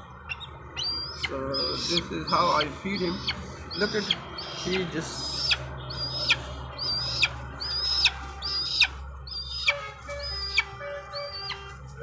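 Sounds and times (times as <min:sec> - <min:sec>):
eagle chirping: 0:00.0 - 0:11.8.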